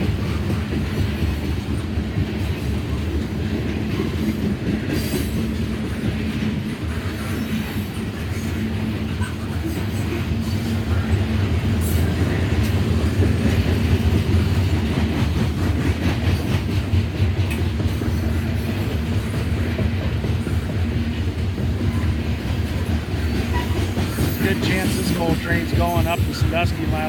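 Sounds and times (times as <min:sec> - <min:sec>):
train rumbling past: 0:00.0 - 0:27.0.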